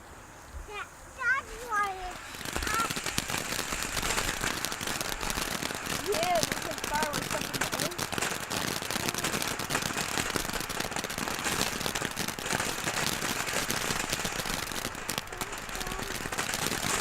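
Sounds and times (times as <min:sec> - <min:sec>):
fireworks crackling pops: 0:00.0 - 0:17.0.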